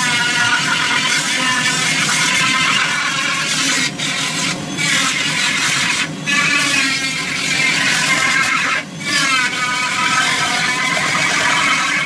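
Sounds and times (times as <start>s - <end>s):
rotary tool grinding wood: 0.0s - 12.0s.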